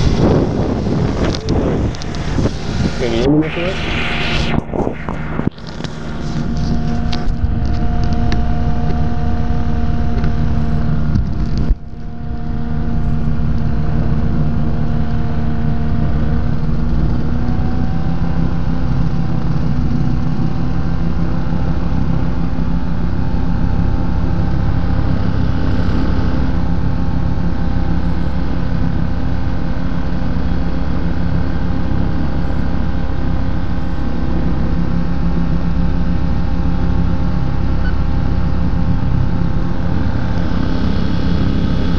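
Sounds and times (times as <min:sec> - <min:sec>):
ultralight aircraft engine running: 0:00.0 - 0:41.9.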